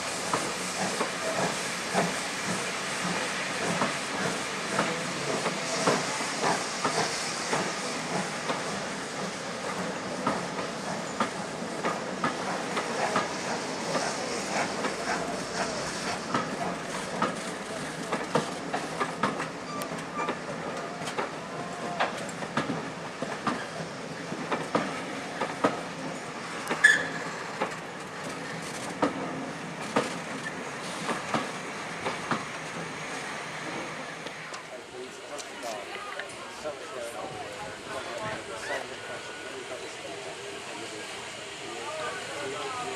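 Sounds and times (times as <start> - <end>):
steam hissing: 0.0 - 42.9
train wheels clicking over rail joints: 0.2 - 34.7.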